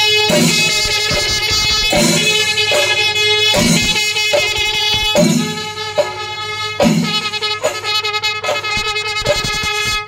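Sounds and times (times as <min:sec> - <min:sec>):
brass horns blowing long notes: 0:00.0 - 0:09.9
cymbals beating: 0:00.0 - 0:09.9
drums beating: 0:00.0 - 0:10.0.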